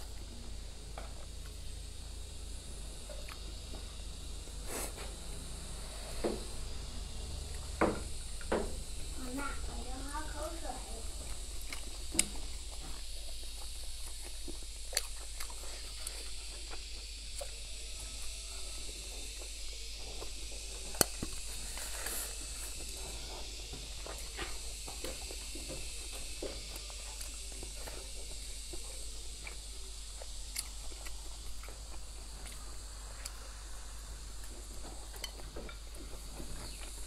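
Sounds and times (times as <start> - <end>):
person chewing food: 0.0 - 5.3, 11.1 - 37.0
steady hiss: 0.0 - 37.0.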